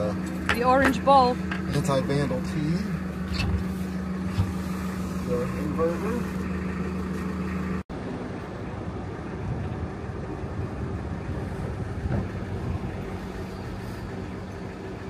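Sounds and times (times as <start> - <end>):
diesel boat engine humming: 0.0 - 15.0.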